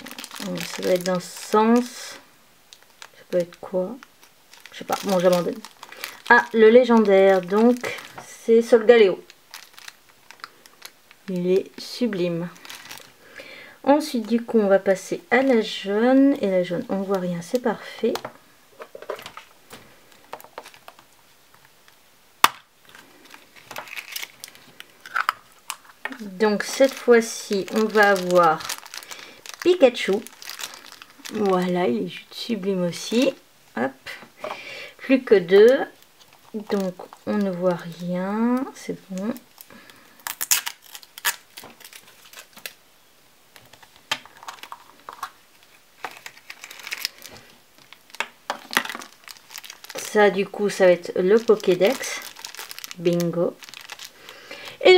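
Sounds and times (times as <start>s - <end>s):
plastic bag crinkle: 0.0s - 21.7s, 22.4s - 33.4s, 34.4s - 42.8s, 43.5s - 54.9s.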